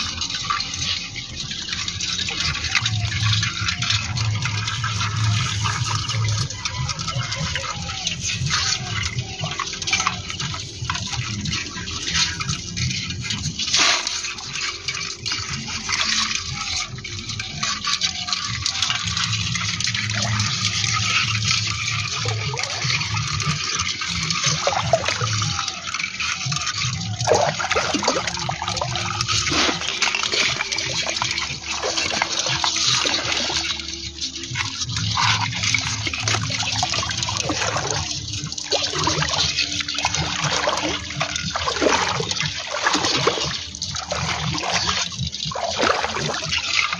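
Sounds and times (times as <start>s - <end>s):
water sloshing and splashing: 0.0s - 46.9s.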